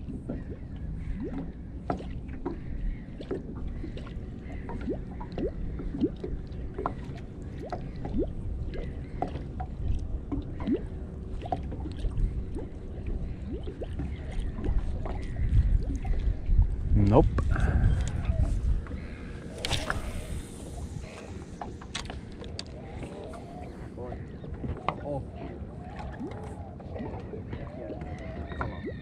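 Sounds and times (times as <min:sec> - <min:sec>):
steady low rumble: 0:00.0 - 0:25.9
waves lapping against boat hull: 0:00.0 - 0:29.0.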